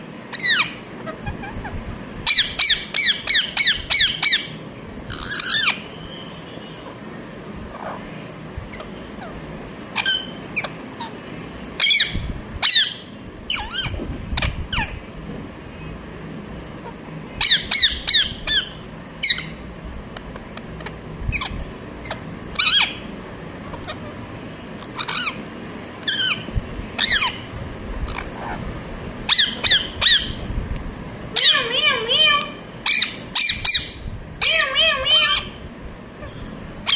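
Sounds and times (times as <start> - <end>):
parrot chirping calls: 0.3 - 7.1, 7.7 - 15.0, 16.8 - 19.7, 20.3 - 30.5, 31.3 - 36.9.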